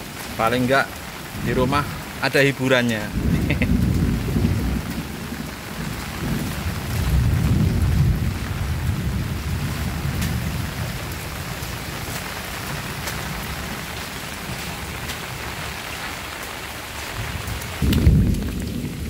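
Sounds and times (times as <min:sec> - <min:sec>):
rain on paved street: 0:00.0 - 0:19.0.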